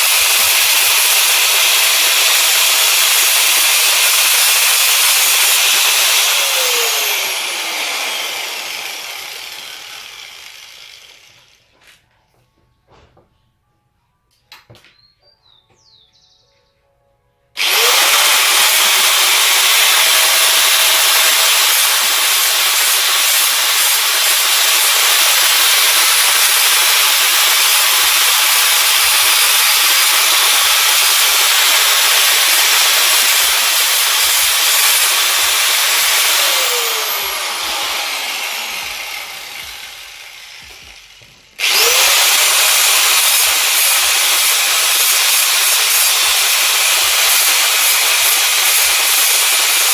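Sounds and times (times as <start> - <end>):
electric grinder sanding steel: 0.0 - 11.8, 17.6 - 49.9
grinder winding down: 0.0 - 11.8, 17.6 - 49.9.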